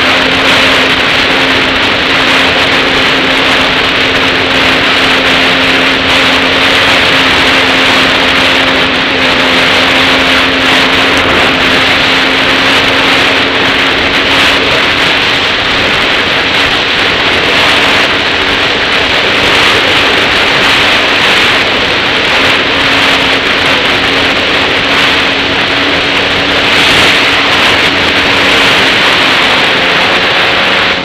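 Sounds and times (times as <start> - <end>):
dirt bike engine running: 0.0 - 31.0
wind rush on microphone: 0.0 - 31.0.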